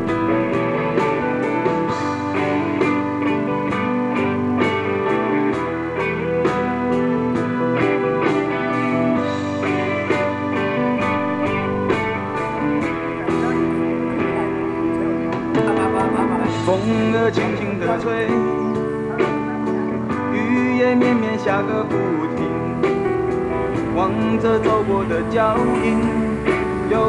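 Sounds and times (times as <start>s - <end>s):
instrumental pop music with guitar: 0.0s - 27.0s.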